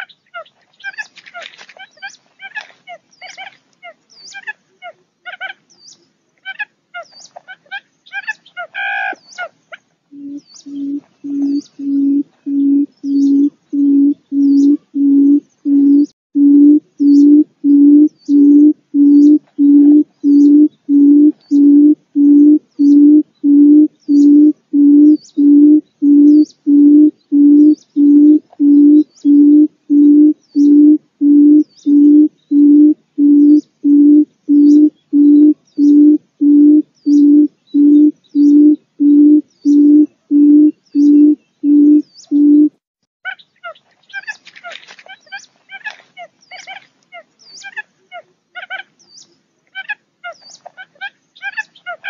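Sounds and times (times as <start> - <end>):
quail hooting: 0.0 - 5.6, 6.4 - 42.7, 43.3 - 48.9, 49.8 - 52.0
quail chirping: 0.0 - 52.0.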